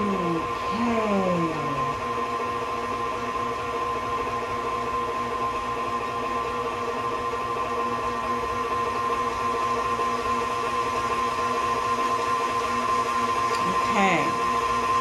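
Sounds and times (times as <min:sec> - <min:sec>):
stand mixer motor whining: 0:00.0 - 0:15.0.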